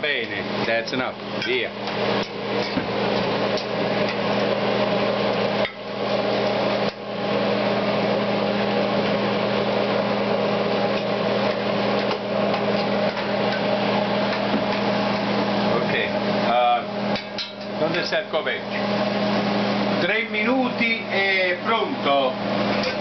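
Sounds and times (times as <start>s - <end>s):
electric mixer humming: 0.0s - 23.0s.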